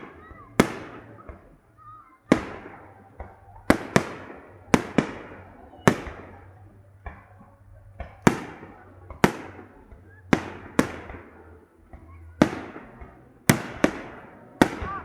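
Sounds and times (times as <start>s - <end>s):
fireworks shells bursting: 0.0s - 15.0s.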